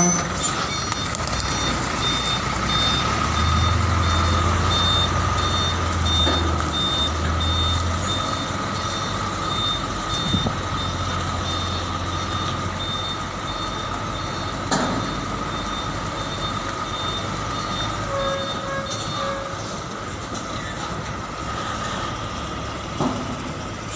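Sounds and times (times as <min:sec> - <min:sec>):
reversing alarm beeping: 0:00.0 - 0:19.5
diesel engine running: 0:00.0 - 0:23.9.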